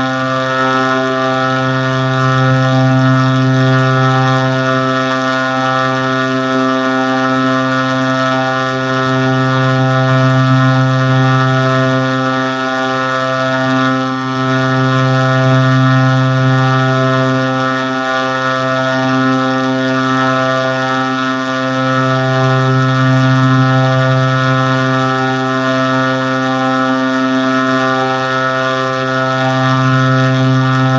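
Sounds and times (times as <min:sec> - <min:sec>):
low buzzing drone: 0:00.0 - 0:30.9.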